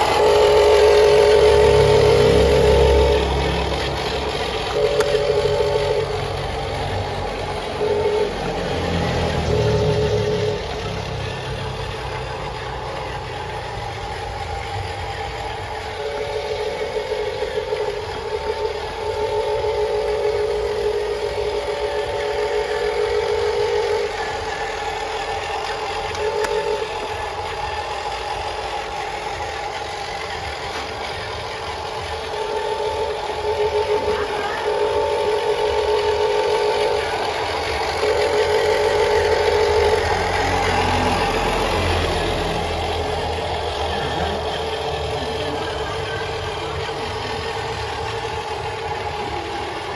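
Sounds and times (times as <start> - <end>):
steady low hum: 0.0 - 49.9
toy truck electric motors whining: 0.0 - 49.9.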